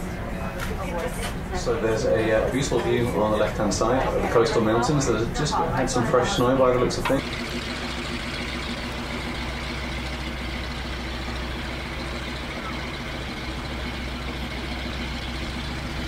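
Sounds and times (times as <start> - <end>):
propeller engine droning: 0.0 - 16.0.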